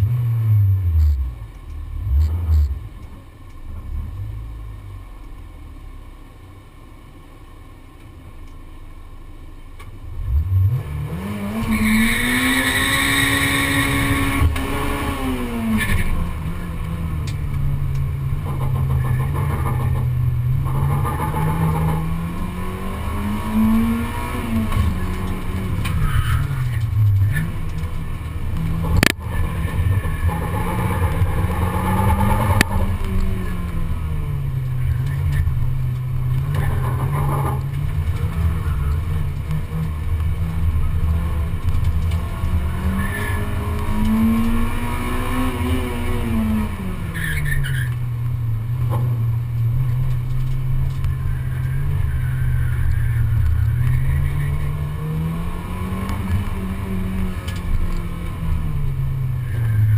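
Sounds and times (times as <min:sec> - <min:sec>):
car engine revving: 0:00.0 - 0:06.4, 0:09.8 - 0:59.9.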